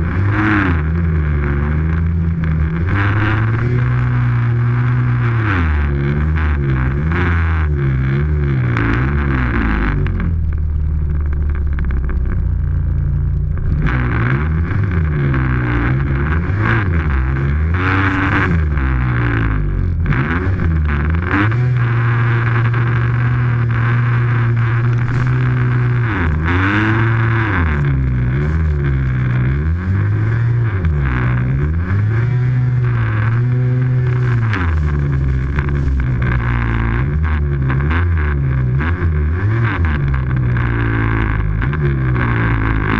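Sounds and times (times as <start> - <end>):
snowmobile engine revving: 0.0 - 12.4, 13.5 - 42.9.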